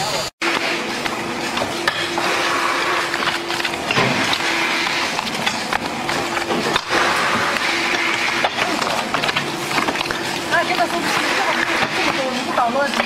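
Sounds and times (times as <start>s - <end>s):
workshop noise: 0.0s - 13.0s.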